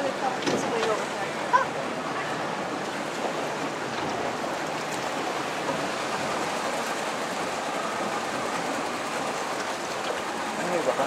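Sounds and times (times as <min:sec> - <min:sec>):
seawater splashing against boat: 0:00.0 - 0:11.0.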